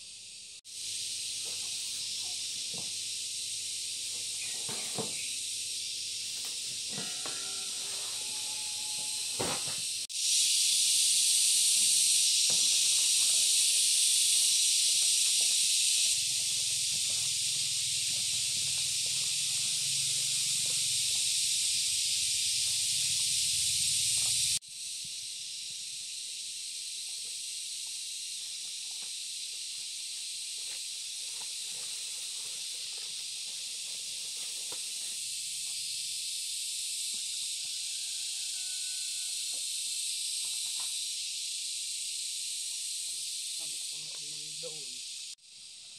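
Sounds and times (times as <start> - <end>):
insects shrill chorus: 0.0 - 45.9.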